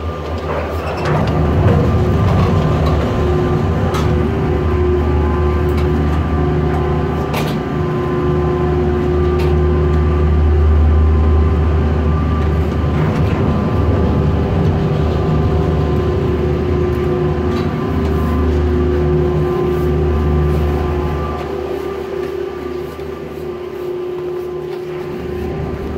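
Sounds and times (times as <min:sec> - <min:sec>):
gondola machinery rumble: 0:00.0 - 0:25.9
machinery whining tones: 0:00.0 - 0:25.9
sharp clicks of passing cabins: 0:00.1 - 0:10.6, 0:12.3 - 0:23.6.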